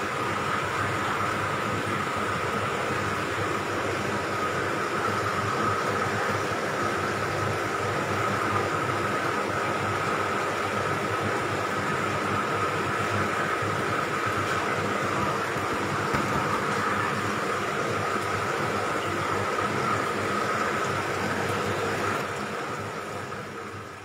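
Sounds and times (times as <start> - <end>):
machine noise with high whine: 0.0 - 24.0.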